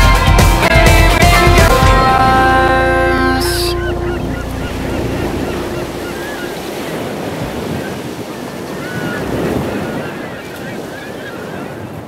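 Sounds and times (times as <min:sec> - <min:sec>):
ocean surf washing onto beach: 0:01.7 - 0:12.0.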